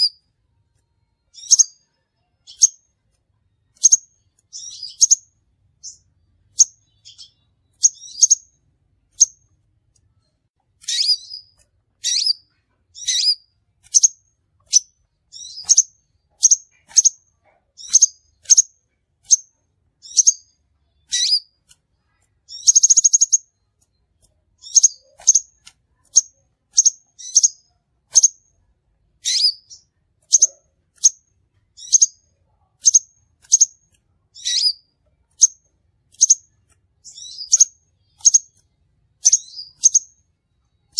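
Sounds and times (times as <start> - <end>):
buzzy bird trill: 0.0 - 0.3, 1.2 - 3.0, 3.7 - 9.5, 10.8 - 24.0, 24.6 - 28.5, 29.2 - 40.9
bird chirping: 0.0 - 40.9.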